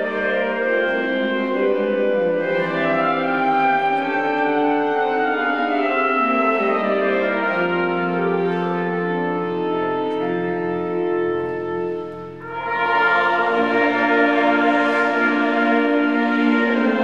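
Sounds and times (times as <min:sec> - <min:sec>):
wind band playing slow chords: 0:00.0 - 0:17.0.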